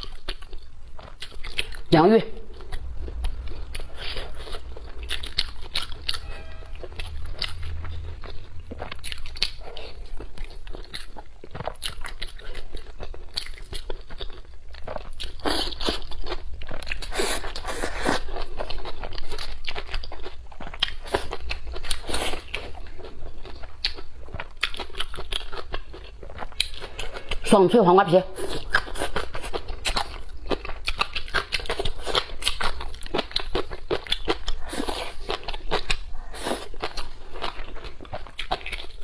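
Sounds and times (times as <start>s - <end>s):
person chewing: 0.0s - 6.2s, 7.0s - 27.4s, 28.4s - 39.0s.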